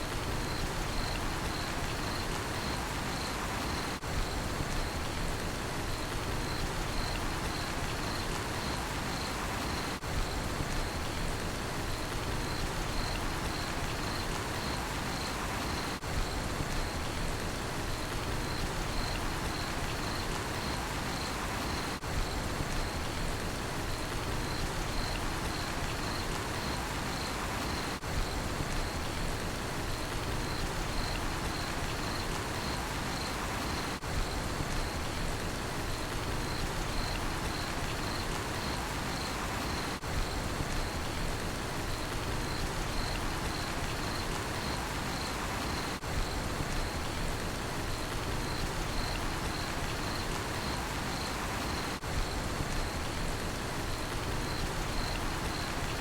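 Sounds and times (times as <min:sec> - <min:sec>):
steady rain falling: 0:00.0 - 0:56.0
cricket chirping: 0:00.3 - 0:05.1, 0:05.9 - 0:11.2, 0:11.9 - 0:17.2, 0:18.0 - 0:23.2, 0:23.8 - 0:29.3, 0:29.9 - 0:35.2, 0:35.9 - 0:56.0.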